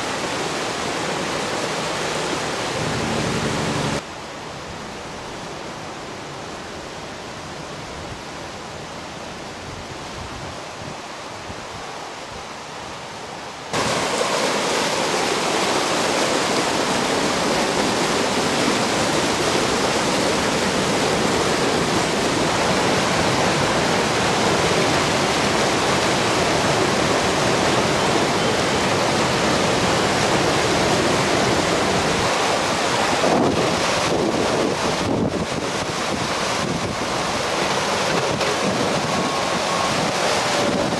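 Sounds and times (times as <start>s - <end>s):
floodwater rushing: 0.0s - 4.4s, 11.0s - 40.9s.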